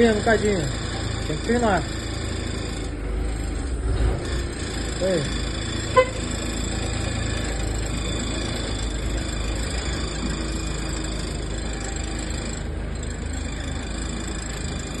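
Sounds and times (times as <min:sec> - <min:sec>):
motor vehicle running: 0:00.0 - 0:15.0.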